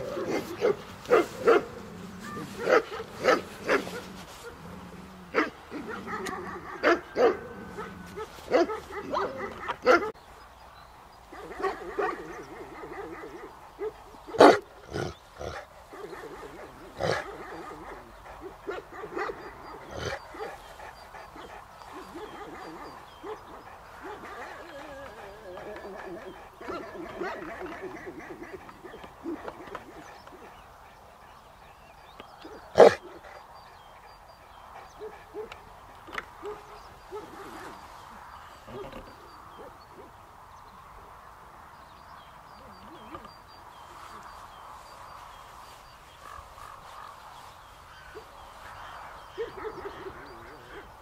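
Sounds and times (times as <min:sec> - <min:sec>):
dogs barking: 0:00.0 - 0:04.6, 0:05.3 - 0:10.2, 0:11.3 - 0:31.4, 0:32.4 - 0:40.2, 0:45.8 - 0:51.0.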